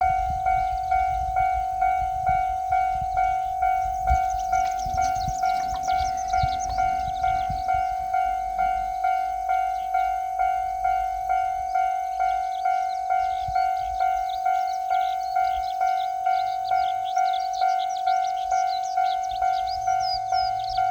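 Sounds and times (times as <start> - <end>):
level crossing warning bell: 0.0 - 20.9.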